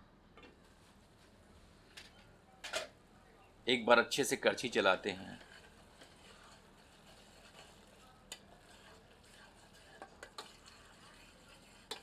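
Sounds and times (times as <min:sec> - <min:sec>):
faint sizzle of frying: 0:00.3 - 0:12.0.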